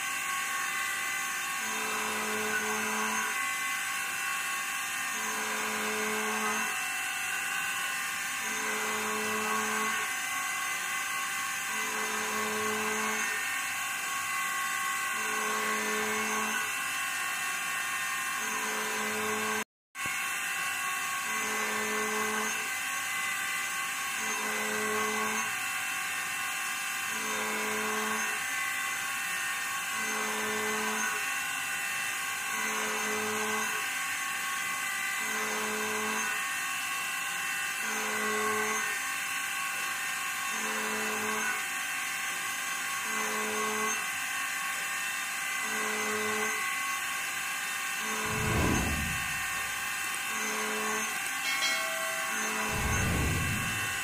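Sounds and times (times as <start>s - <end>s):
cnc router milling steel: 0.0s - 54.0s.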